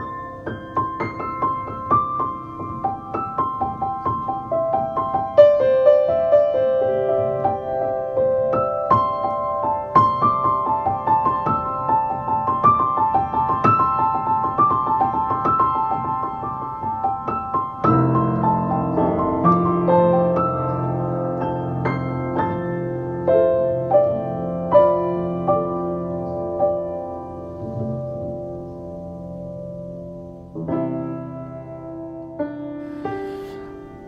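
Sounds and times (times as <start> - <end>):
instrumental keyboard music: 0.0 - 34.0.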